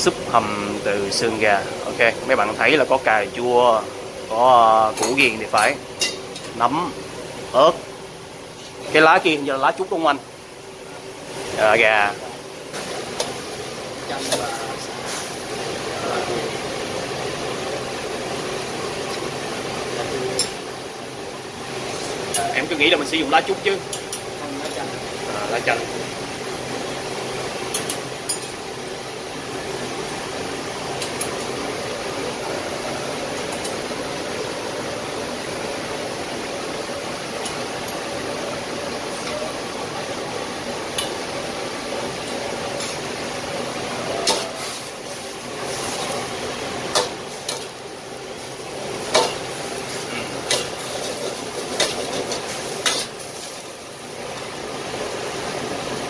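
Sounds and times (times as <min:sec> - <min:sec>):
kitchen hum: 0:00.0 - 0:56.0.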